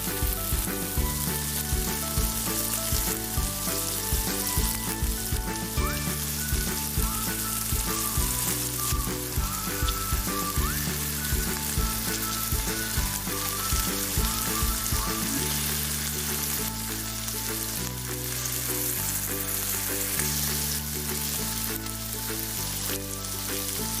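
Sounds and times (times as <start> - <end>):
food sizzling in a pan: 0.0 - 24.0
instrumental background music: 0.0 - 24.0.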